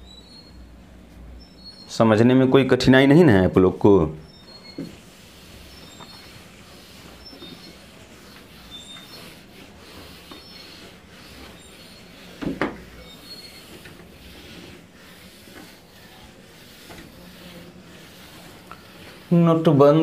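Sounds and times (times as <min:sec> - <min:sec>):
marker squeak: 0:00.0 - 0:00.7, 0:01.4 - 0:02.0, 0:04.2 - 0:19.3
marker rubbing on whiteboard: 0:03.1 - 0:20.0.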